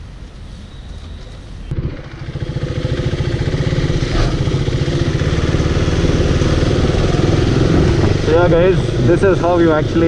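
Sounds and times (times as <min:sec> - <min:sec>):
motorcycle engine running: 0:01.7 - 0:10.0.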